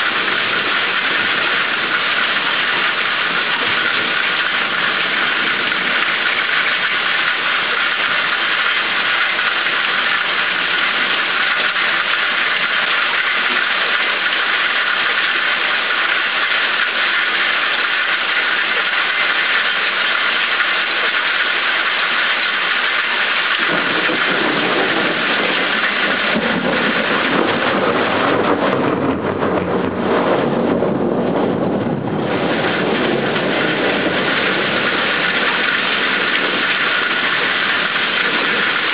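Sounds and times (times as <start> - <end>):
low rumble of thunder: 0.0 - 15.7, 23.3 - 38.9
heavy rain hissing: 0.0 - 38.9.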